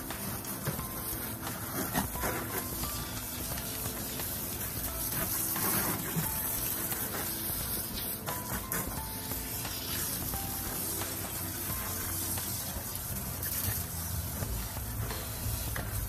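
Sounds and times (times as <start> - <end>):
background music: 0.0 - 16.0
hose nozzle spraying water: 0.0 - 16.0.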